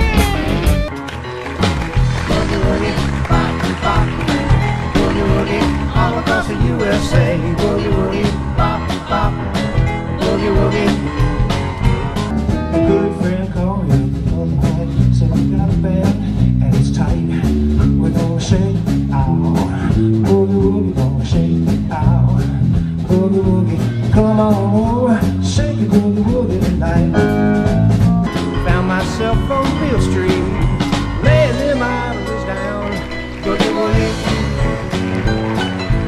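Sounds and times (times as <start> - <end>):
live blues band playing: 0.0 - 36.0.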